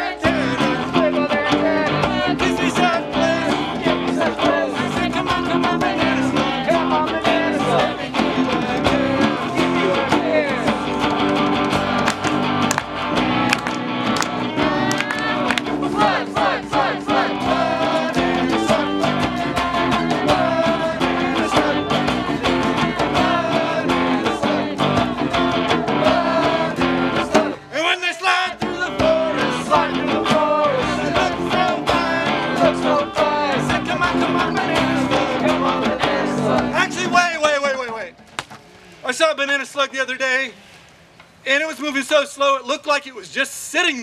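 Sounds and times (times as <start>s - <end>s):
voices singing upbeat song: 0.0s - 38.1s
strummed guitars: 0.0s - 38.8s.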